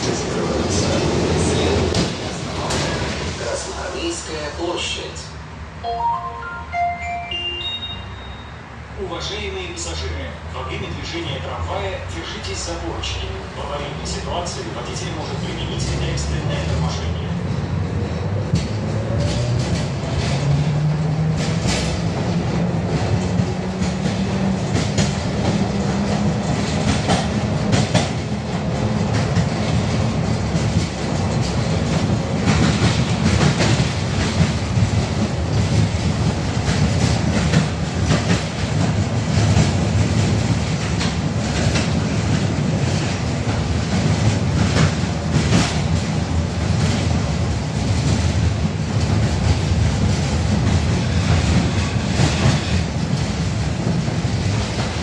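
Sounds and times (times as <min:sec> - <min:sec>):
tram wheels rumbling: 0:00.0 - 0:05.9, 0:08.6 - 0:55.0.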